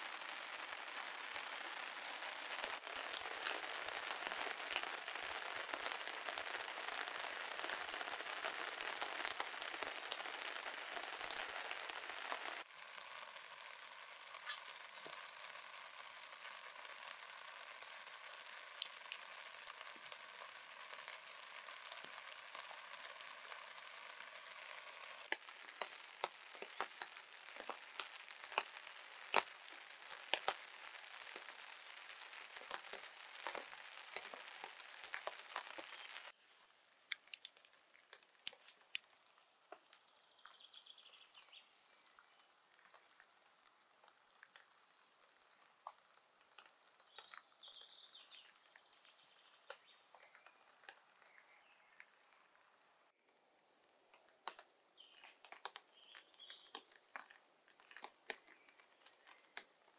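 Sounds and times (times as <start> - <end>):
raindrops tapping on a tarp: 0.0 - 36.4, 37.0 - 59.9
steady rain hissing: 0.0 - 59.9.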